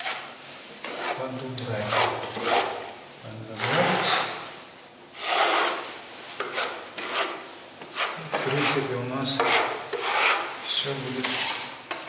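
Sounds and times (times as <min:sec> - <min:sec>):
spatula scraping plaster: 0:00.0 - 0:04.4, 0:05.2 - 0:12.0.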